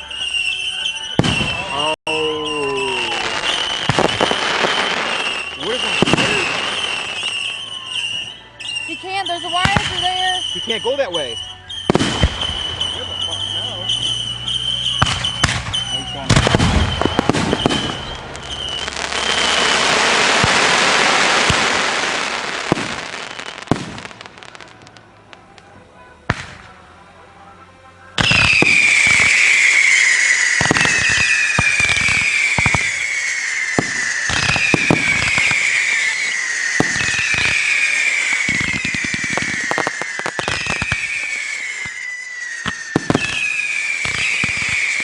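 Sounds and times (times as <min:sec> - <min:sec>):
fireworks bangs: 0:00.0 - 0:26.8, 0:28.2 - 0:45.0
fireworks popping: 0:00.0 - 0:26.8, 0:28.2 - 0:45.0
fireworks crackling: 0:00.0 - 0:45.0
whistling fireworks: 0:00.0 - 0:45.0.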